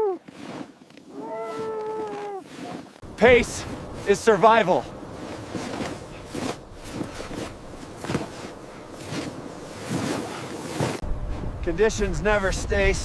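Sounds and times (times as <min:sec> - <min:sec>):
footsteps crunching through snow: 0:00.1 - 0:11.6.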